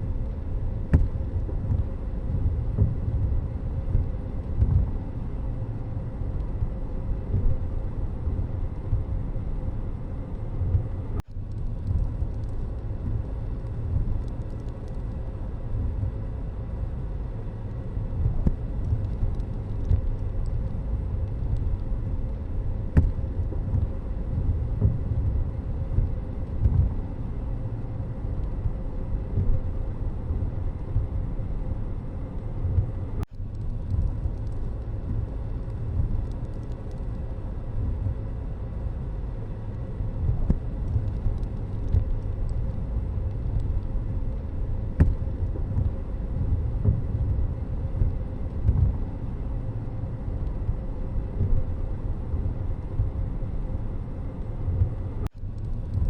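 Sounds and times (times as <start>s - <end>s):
vehicle rumbling along road: 0.0s - 56.0s.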